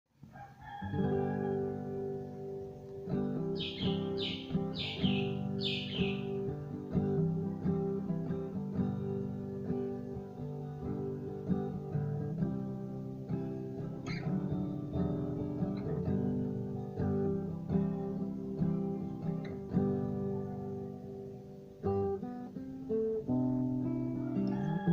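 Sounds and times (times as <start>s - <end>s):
acoustic guitar strumming: 0.9s - 24.9s.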